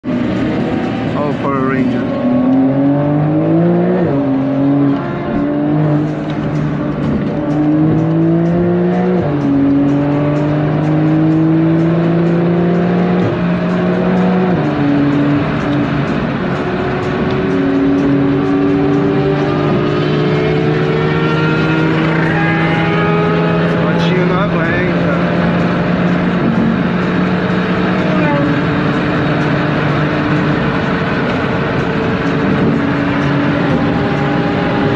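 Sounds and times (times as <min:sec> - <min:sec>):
car engine accelerating hard: 0:00.0 - 0:34.9
wind and road noise: 0:00.0 - 0:34.9.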